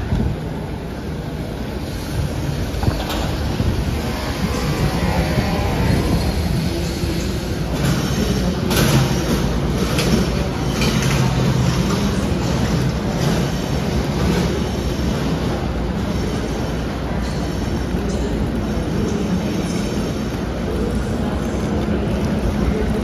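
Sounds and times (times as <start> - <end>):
rumble of standing trains: 0.0 - 23.0
suitcases rolling on concrete: 0.0 - 23.0.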